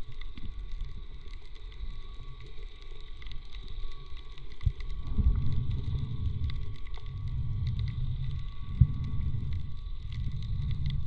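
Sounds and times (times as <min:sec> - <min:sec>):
faint underwater clicks: 0:00.0 - 0:11.0
underwater rumble: 0:00.0 - 0:11.0.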